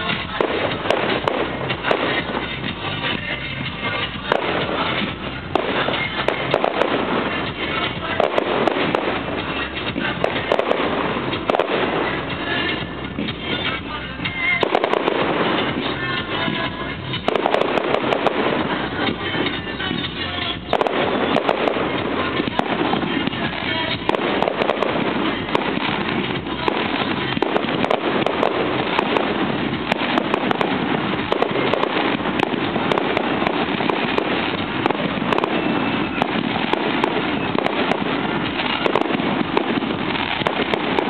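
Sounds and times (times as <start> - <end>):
fireworks bursts: 0.0 - 41.0
fireworks crackling: 0.0 - 41.0.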